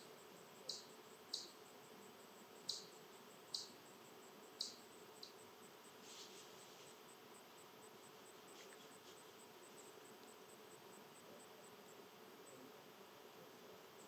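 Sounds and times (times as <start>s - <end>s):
faint steady hum: 0.0s - 14.0s
insect chirping: 0.0s - 14.0s.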